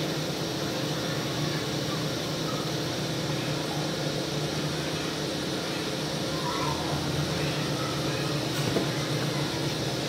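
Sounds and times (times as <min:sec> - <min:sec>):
machine hum with hiss: 0:00.0 - 0:10.0.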